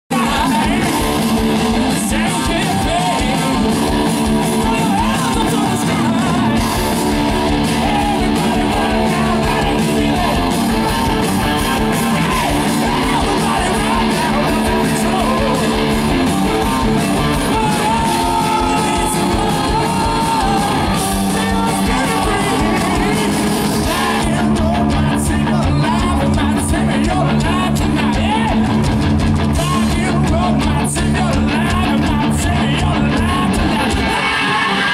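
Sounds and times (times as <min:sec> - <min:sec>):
electric bass and drums: 0:00.1 - 0:34.9
live hard rock band: 0:00.1 - 0:34.9.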